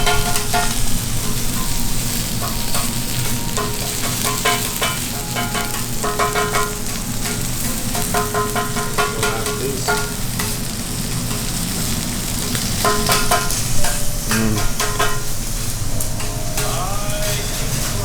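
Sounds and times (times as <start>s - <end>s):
beef sizzling: 0.0s - 18.0s.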